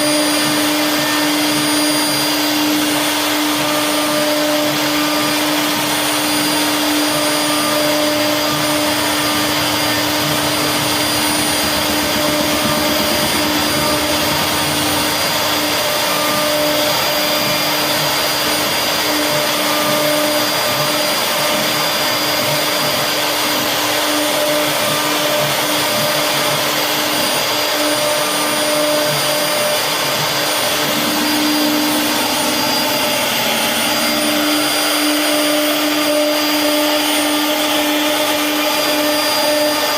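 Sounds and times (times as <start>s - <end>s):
hiss of wood cutting: 0.0s - 39.9s
router spindle whining: 0.0s - 39.9s.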